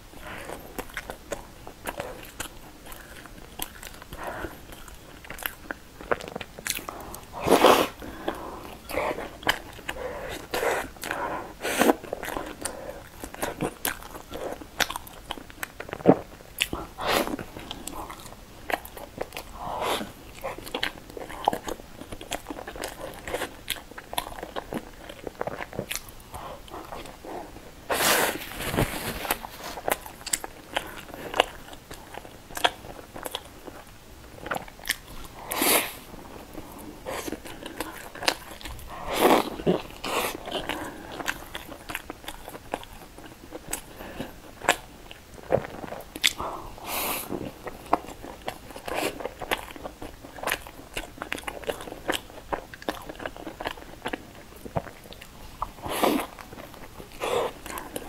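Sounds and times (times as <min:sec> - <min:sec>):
chewing and wet mouth sounds: 0:00.1 - 0:58.0.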